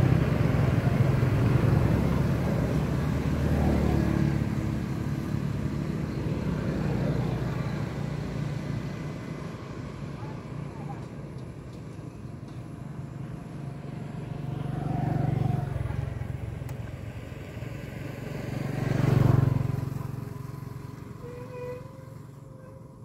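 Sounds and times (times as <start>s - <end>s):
motor vehicles passing: 0.0s - 23.0s.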